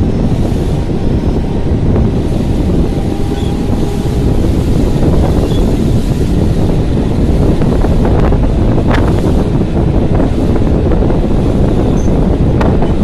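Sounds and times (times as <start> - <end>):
train running on track: 0.0 - 13.0
wind buffeting microphone: 0.0 - 13.0.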